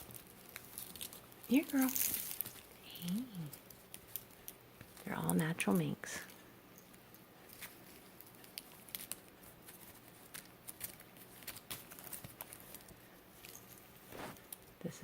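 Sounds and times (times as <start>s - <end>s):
kitten paws clicking and rustling: 0.0s - 5.5s, 6.1s - 14.8s
low steady hum: 0.0s - 15.0s.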